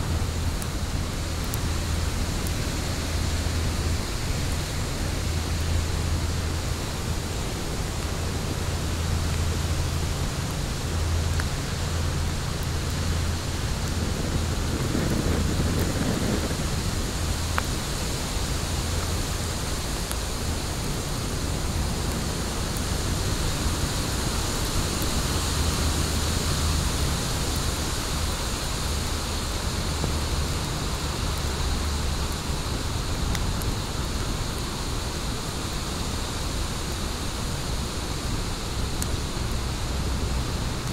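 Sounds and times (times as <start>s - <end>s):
fire burning: 0.0s - 40.9s
sharp crackles of fire: 0.0s - 40.9s.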